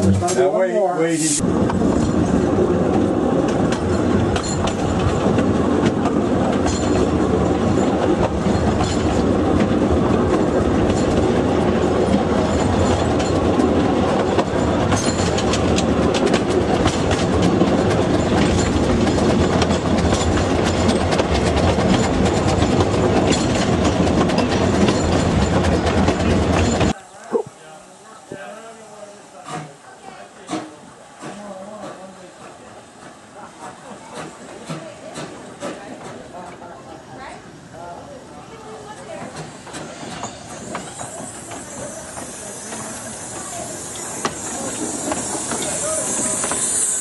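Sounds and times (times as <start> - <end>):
train cars rumbling on track: 0.0 - 27.0, 28.9 - 47.0
wheels clicking on rails: 1.4 - 27.0, 29.4 - 37.3, 38.5 - 47.0.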